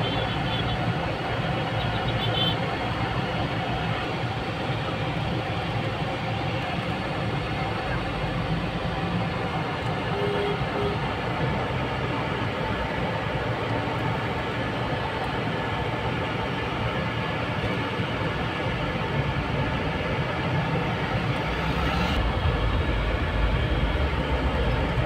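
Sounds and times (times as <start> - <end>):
vehicle road noise rumbling: 0.0 - 25.0.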